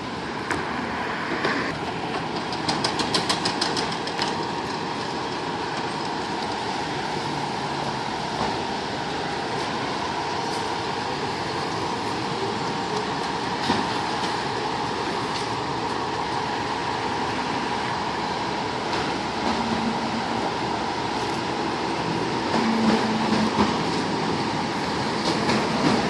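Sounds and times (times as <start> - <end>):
large vehicle running: 0.0 - 26.0.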